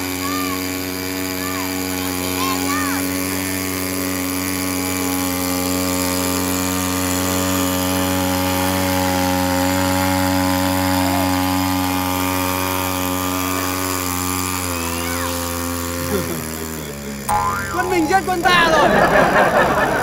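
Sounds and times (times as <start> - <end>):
water pump engine drone: 0.0 - 20.0.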